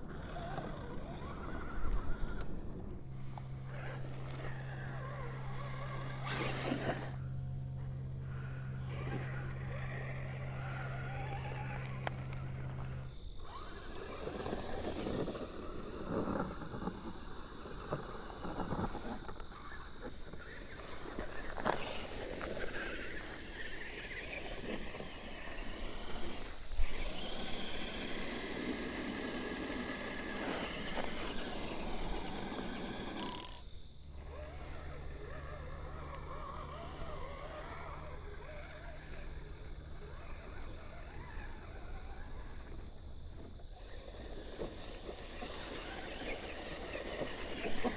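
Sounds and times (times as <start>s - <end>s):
toy car electric motor whirring: 0.0s - 47.9s.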